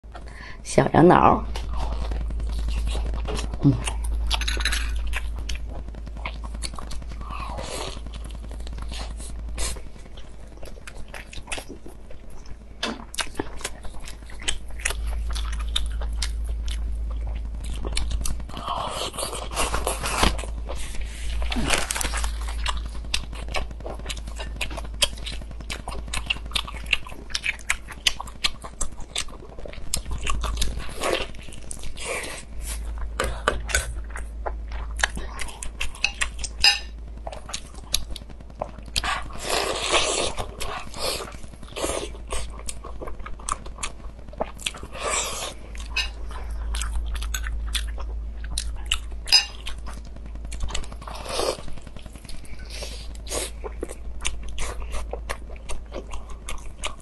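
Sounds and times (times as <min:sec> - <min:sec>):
steady low hum: 0:00.0 - 0:57.0
person biting and chewing food: 0:01.6 - 0:57.0.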